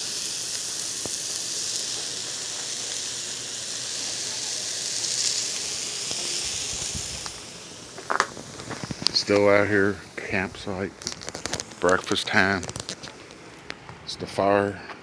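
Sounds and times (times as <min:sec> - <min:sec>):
patties sizzling on griddle: 0:00.0 - 0:13.8.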